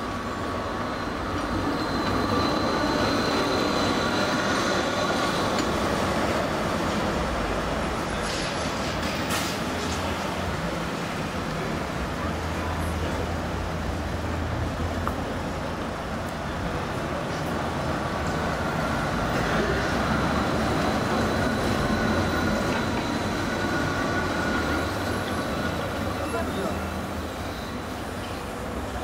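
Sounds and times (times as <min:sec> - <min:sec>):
city street traffic hum: 0:00.0 - 0:29.0
electric trolleybus whine: 0:00.0 - 0:29.0.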